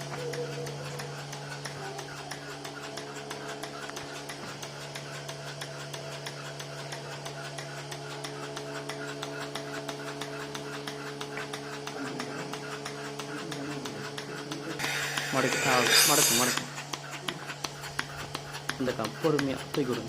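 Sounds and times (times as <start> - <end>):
milking machine humming and ticking: 0.0 - 20.0.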